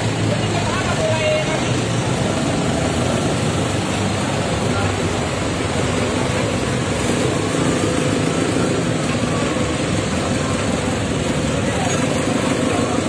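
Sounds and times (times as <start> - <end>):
off-road vehicle engines running: 0.0 - 13.0.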